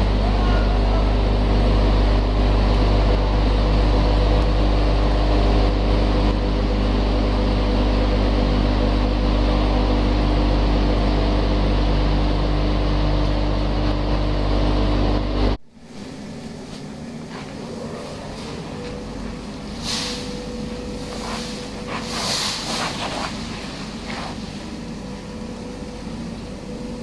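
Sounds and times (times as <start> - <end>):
deep electric motor hum: 0.0 - 27.0
machinery mechanical noise: 0.0 - 27.0.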